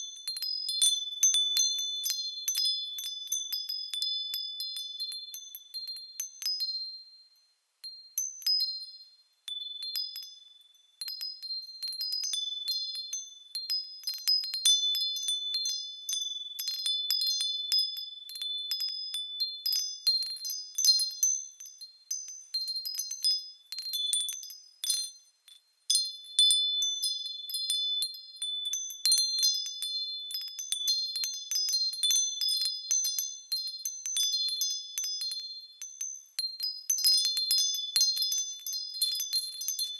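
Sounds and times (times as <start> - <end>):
small bells jingling: 7.9 - 39.9.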